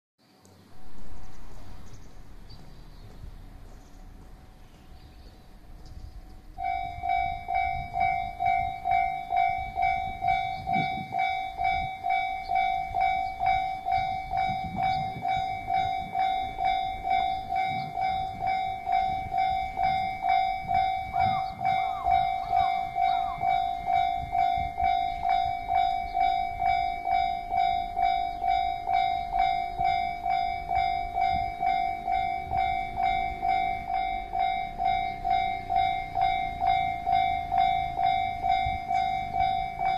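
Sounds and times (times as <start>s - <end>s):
level crossing warning bell: 5.2s - 39.9s.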